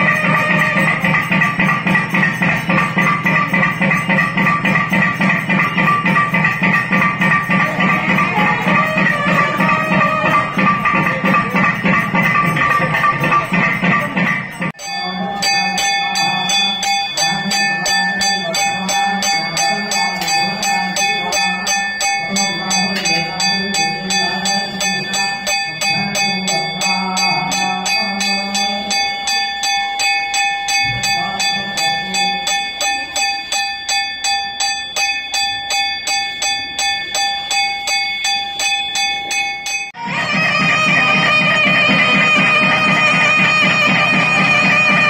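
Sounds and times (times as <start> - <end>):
temple bell ringing: 0.0 - 45.0.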